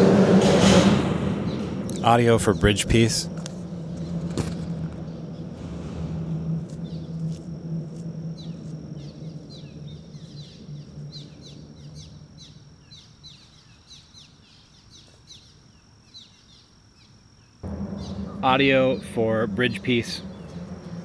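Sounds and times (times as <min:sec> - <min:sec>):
low rumble: 0:00.0 - 0:13.5, 0:17.6 - 0:21.0
birds chirping: 0:01.2 - 0:21.0.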